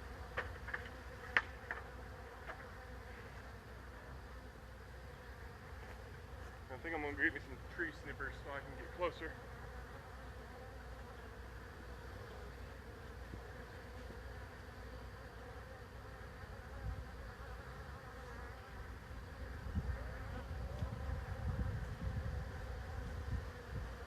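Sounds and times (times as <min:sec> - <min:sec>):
bee swarm buzzing: 0:00.0 - 0:24.0.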